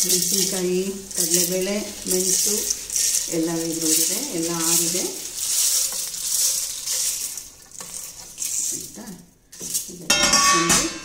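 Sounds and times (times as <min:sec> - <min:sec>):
dry spices rustling into jar: 0:00.0 - 0:10.1.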